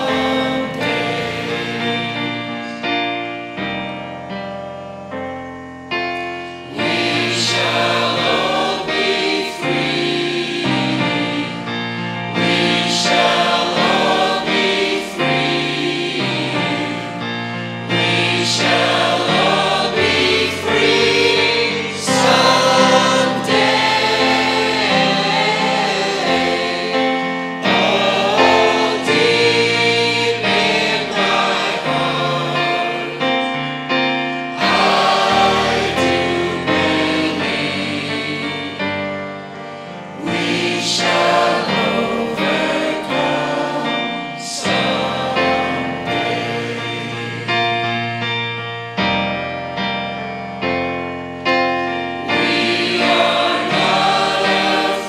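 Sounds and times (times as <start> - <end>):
mixed choir singing: 0.0 - 3.9, 6.4 - 48.3, 52.1 - 55.0.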